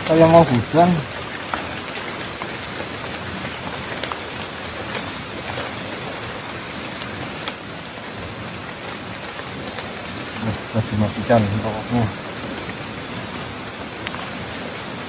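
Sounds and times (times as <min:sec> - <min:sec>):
strong wind through trees: 0:00.0 - 0:15.0.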